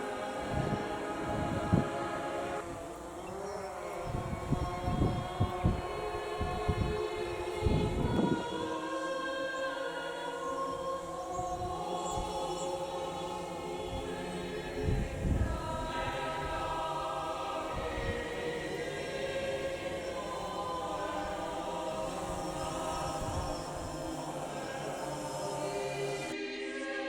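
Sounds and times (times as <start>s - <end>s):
choir-like background music: 0.0s - 27.0s.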